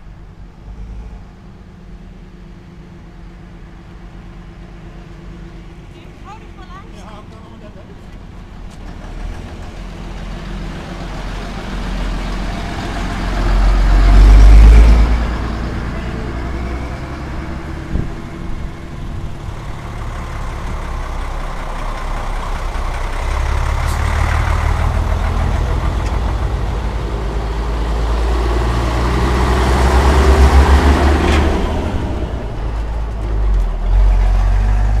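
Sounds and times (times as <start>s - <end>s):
trucks driving past: 0.0s - 35.0s.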